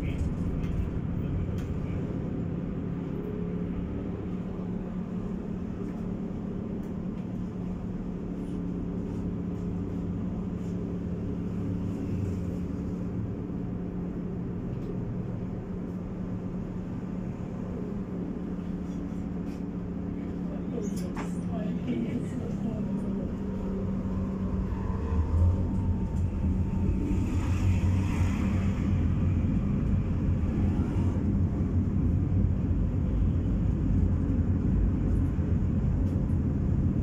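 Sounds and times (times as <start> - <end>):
tram motor hum: 0.0 - 37.0
tram running gear rumble: 0.0 - 37.0.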